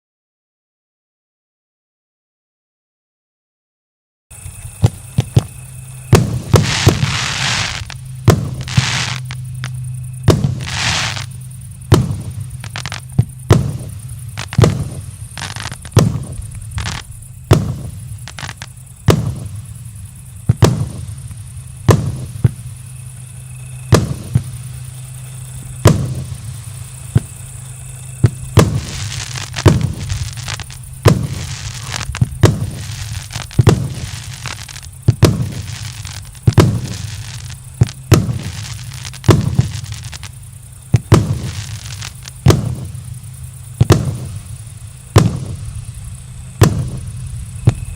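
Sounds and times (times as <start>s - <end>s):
firework crackling fizz: 4.3s - 47.9s
firework bangs: 4.4s - 47.9s.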